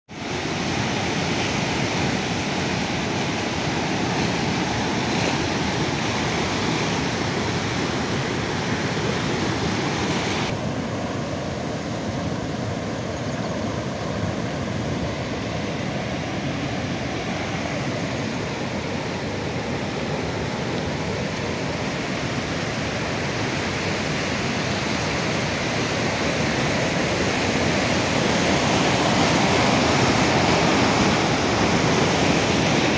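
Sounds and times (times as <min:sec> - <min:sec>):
water rushing over a weir: 0:00.1 - 0:32.9.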